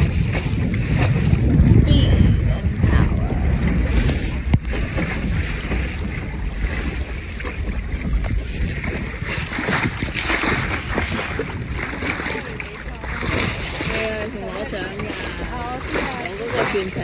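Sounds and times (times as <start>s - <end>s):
water sloshing against hull: 0.0s - 17.0s
water splashing: 0.0s - 17.0s
wind buffeting microphone: 0.0s - 17.0s.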